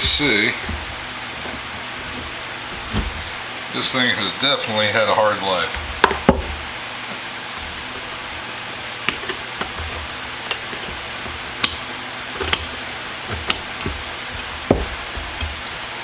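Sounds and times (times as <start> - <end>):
dull thud: 0.0 - 3.7, 5.6 - 16.0.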